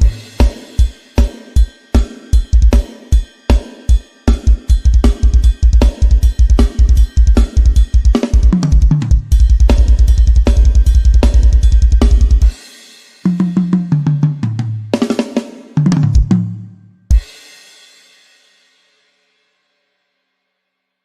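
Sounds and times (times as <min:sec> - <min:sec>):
drum kit playing fast groove: 0:00.0 - 0:18.2.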